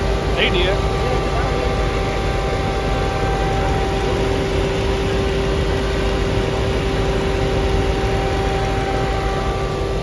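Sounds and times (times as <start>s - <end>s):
car engine idling: 0.0s - 10.0s
supercharger whine: 0.0s - 10.0s.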